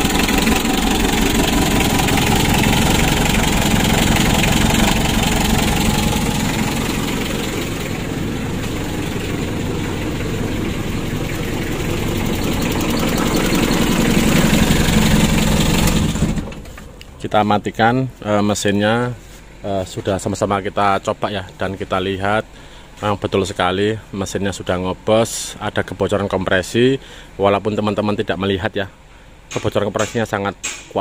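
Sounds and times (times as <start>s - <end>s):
diesel engine idling rough: 0.0s - 27.4s.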